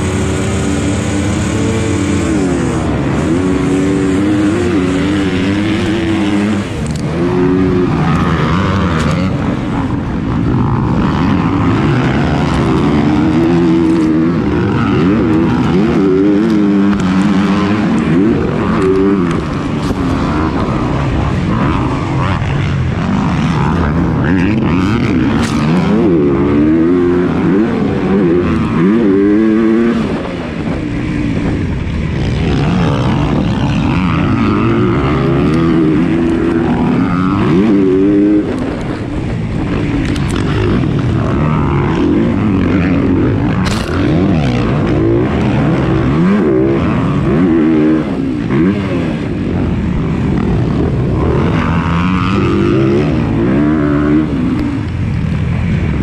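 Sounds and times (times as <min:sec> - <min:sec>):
motocross bike engine revving: 0:00.0 - 0:56.0
wind: 0:00.0 - 0:56.0.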